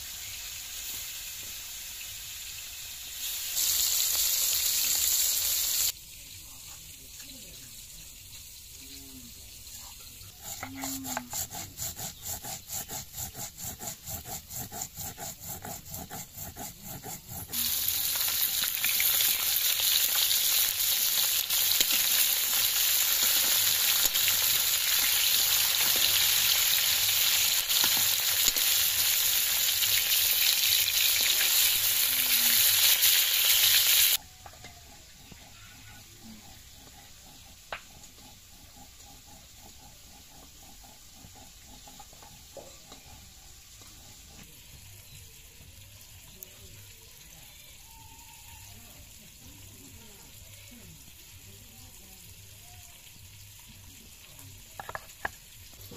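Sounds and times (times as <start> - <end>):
fish sizzling in hot oil: 0.0 - 13.7, 15.2 - 39.0, 40.0 - 55.9.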